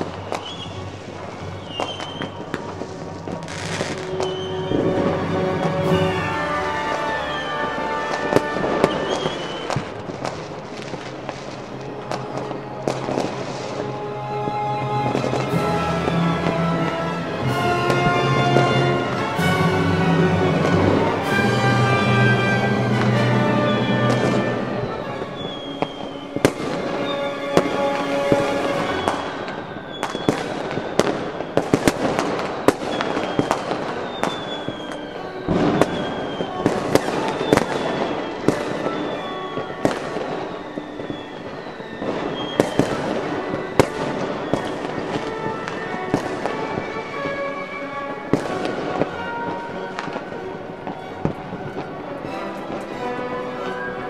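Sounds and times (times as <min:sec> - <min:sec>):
background music: 0:00.0 - 0:54.0
fireworks bursting: 0:00.0 - 0:54.0.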